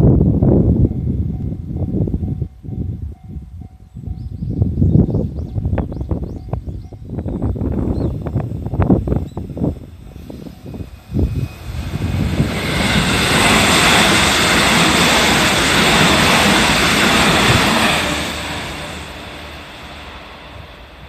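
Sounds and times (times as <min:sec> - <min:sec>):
electric train passing at speed: 0:00.0 - 0:21.0.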